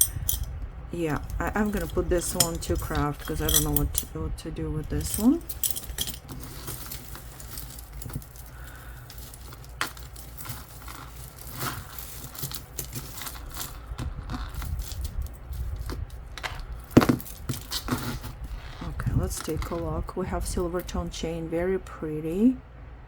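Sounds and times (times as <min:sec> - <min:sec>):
metal jewelry clinking: 0:00.0 - 0:20.9
low hum: 0:00.0 - 0:23.0.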